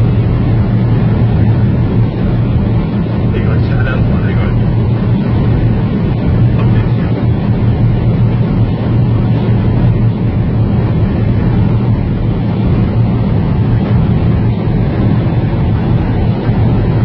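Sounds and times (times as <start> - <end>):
car engine drone: 0.0 - 17.0
road and wind noise: 0.0 - 17.0.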